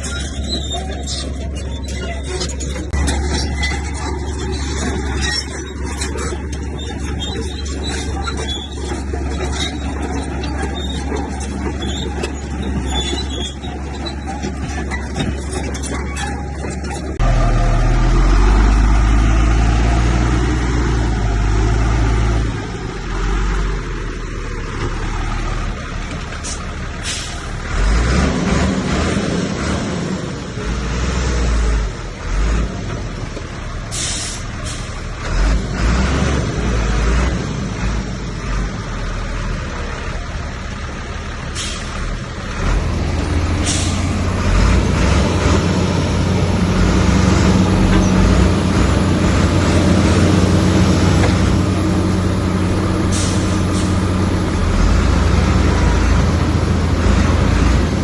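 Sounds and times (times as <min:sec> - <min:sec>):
heavy diesel engines rumbling: 0:00.0 - 0:58.0.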